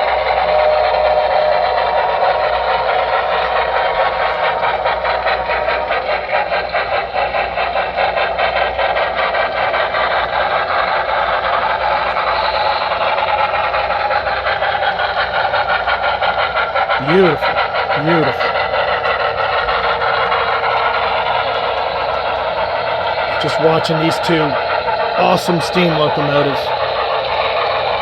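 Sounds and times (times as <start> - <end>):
model steam locomotives chuffing: 0.0 - 28.0.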